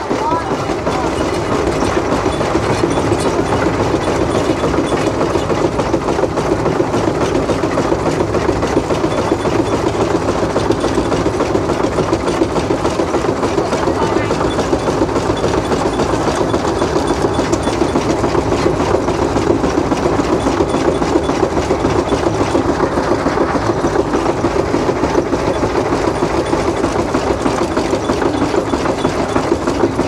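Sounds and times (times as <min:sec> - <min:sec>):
steam traction engine running: 0:00.0 - 0:30.0.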